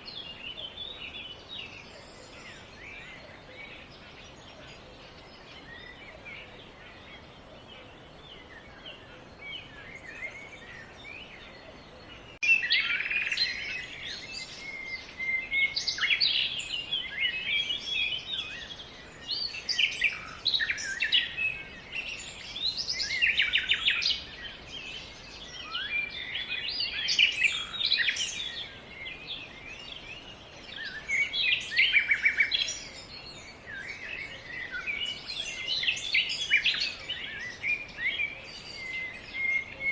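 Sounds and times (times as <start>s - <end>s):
faint outdoor background: 0.0s - 39.9s
small birds singing and chirping: 0.0s - 39.9s.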